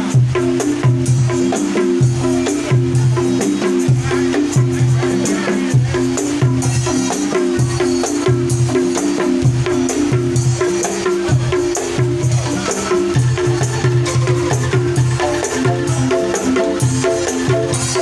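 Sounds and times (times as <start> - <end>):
bamboo rattles shaken in rhythm: 0.0 - 18.0.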